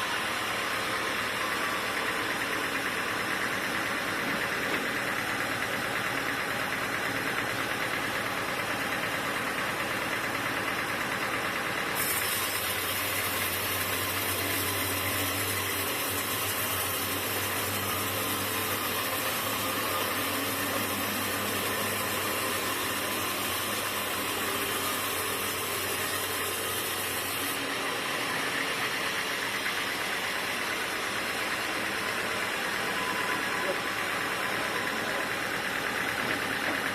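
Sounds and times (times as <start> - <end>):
sawmill machinery running: 0.0 - 36.9.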